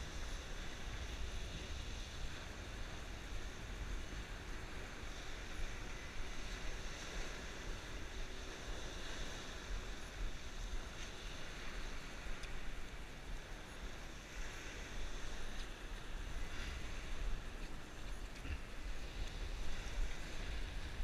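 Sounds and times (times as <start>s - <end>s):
surf washing on beach: 0.0s - 21.0s
wind on microphone: 0.0s - 21.0s.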